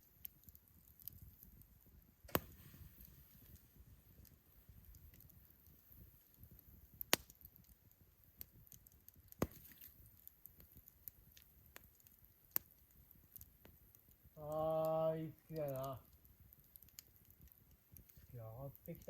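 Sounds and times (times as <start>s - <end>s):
campfire crackling: 0.0s - 19.0s
sharp fire pops: 0.0s - 19.0s.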